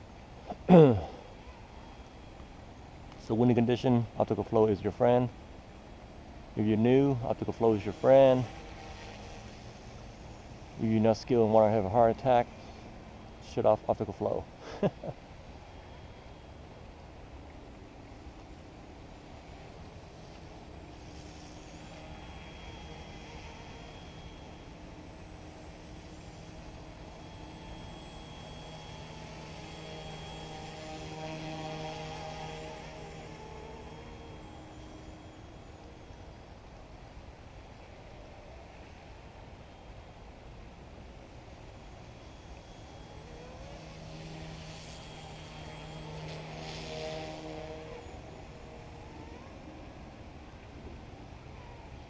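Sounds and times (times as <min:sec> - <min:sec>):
remote-control helicopter whining: 0:00.0 - 0:52.0.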